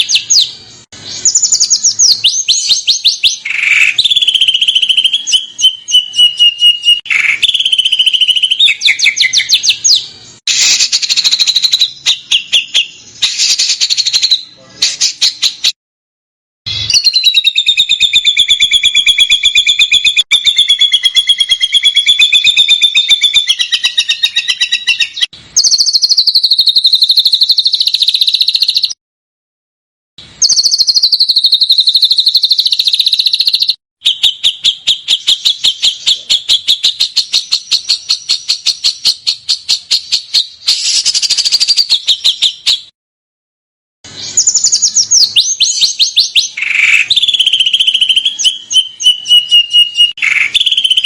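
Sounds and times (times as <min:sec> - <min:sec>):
songbird trilling: 0:00.0 - 0:15.7, 0:16.7 - 0:29.0, 0:30.4 - 0:42.9, 0:44.2 - 0:51.0.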